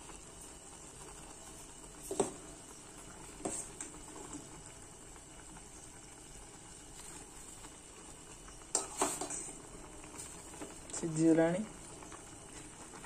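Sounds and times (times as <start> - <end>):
water boiling in pot: 0.0 - 13.0.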